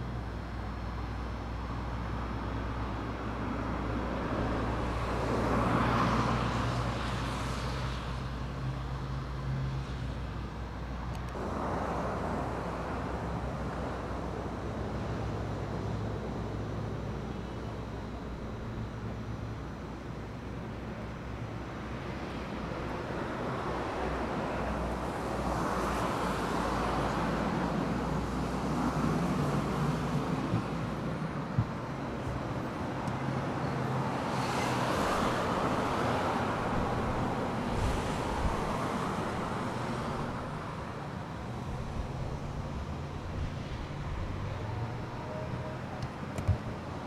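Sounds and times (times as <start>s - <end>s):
vehicles passing: 0.0s - 47.0s
steady low hum: 6.5s - 47.0s.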